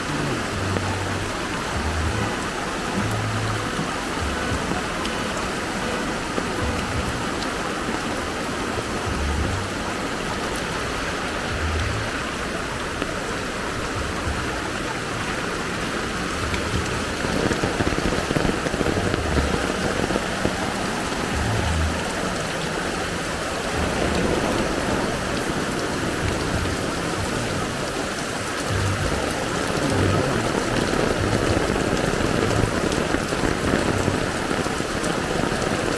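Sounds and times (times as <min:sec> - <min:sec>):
heavy rain on a flooded street: 0:00.0 - 0:35.9.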